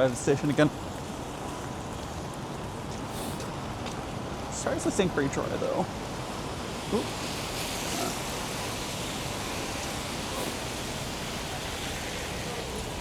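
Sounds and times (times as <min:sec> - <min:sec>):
rain on wet street: 0:00.0 - 0:13.0.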